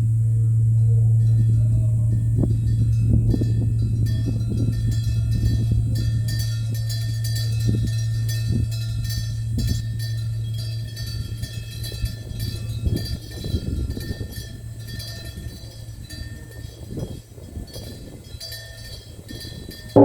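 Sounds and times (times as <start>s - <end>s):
large temple bell humming: 0.0s - 20.0s.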